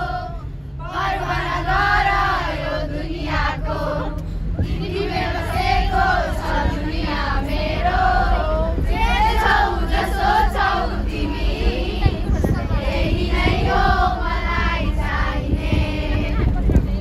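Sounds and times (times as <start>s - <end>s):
children singing together: 0.0s - 16.6s.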